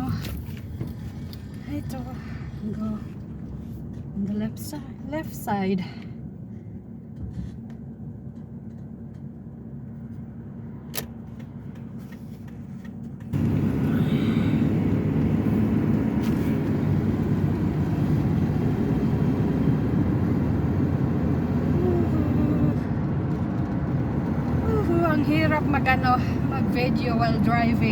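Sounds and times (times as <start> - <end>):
truck engine and road noise: 0.0 - 27.9.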